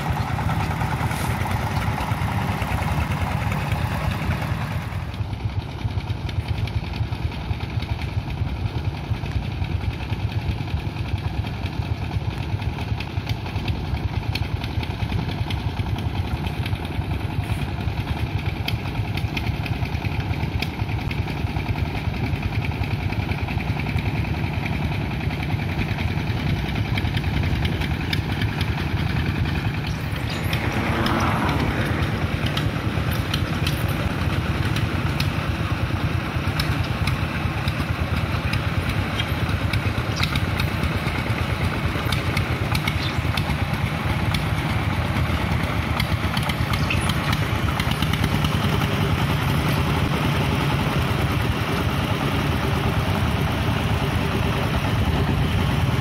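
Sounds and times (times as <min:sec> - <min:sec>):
diesel engines chugging: 0:00.0 - 0:56.0.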